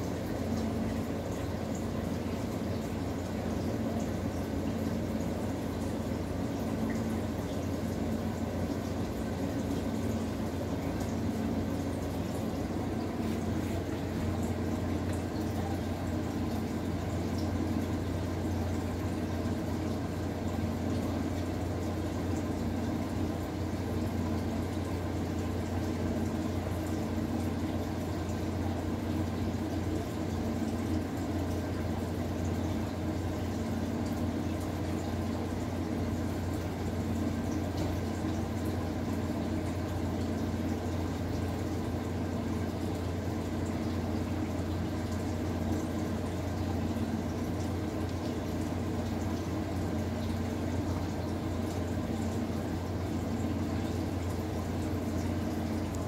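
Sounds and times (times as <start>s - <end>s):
aquarium water bubbling: 0.0s - 56.0s
steady low hum: 0.0s - 56.0s.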